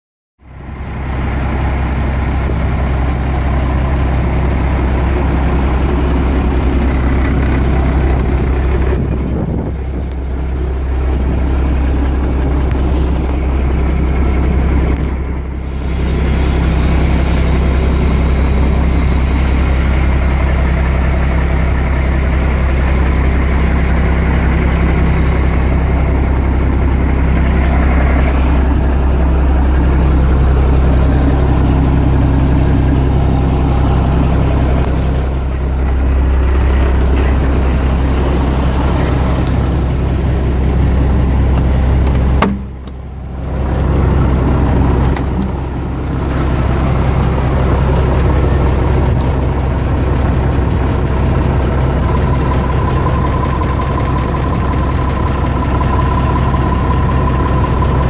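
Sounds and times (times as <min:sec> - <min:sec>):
truck diesel engine idling: 0:00.4 - 0:58.0.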